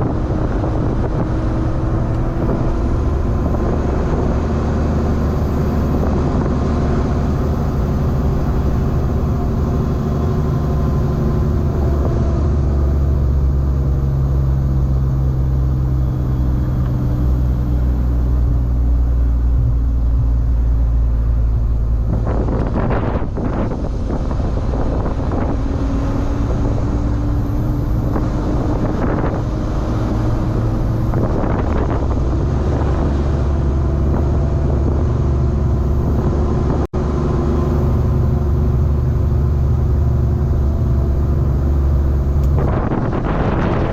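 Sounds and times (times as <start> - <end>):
diesel truck engine drone: 0.0 - 43.9.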